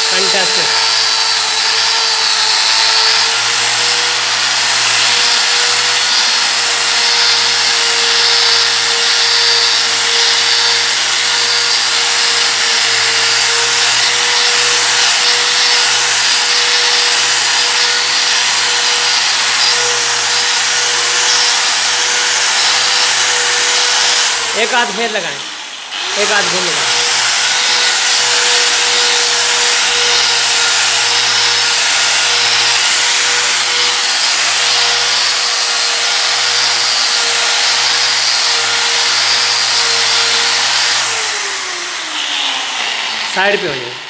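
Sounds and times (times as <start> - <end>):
angle grinder motor whine: 0.0 - 44.0.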